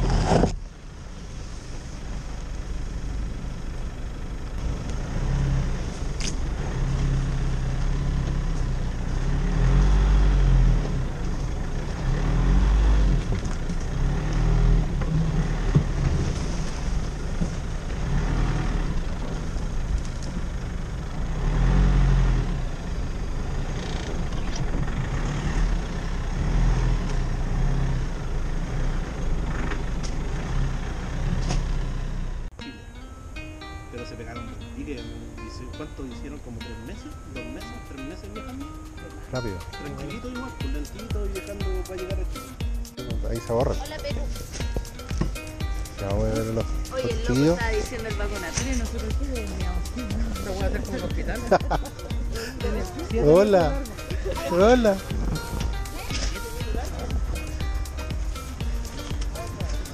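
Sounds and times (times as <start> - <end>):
vehicle engine revving: 0.0 - 32.5, 36.0 - 59.9.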